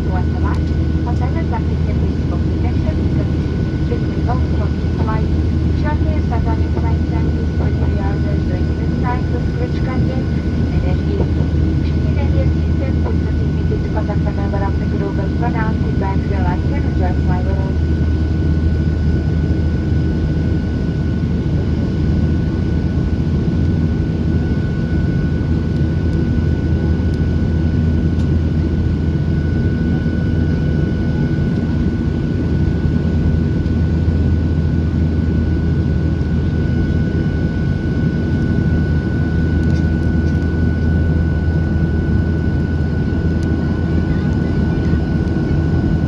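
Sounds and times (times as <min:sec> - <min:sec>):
high steady whine: 0:00.0 - 0:46.0
jet engine cabin rumble: 0:00.0 - 0:46.0.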